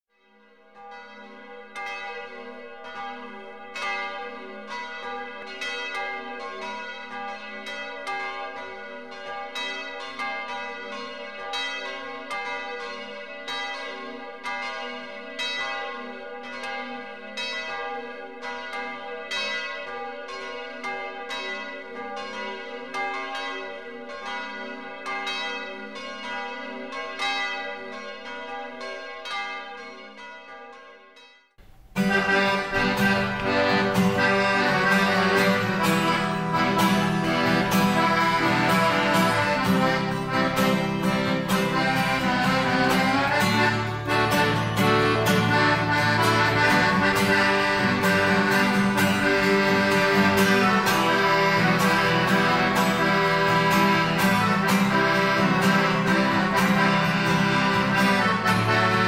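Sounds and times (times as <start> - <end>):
church bells pealing: 0.1 - 31.4, 32.0 - 59.0.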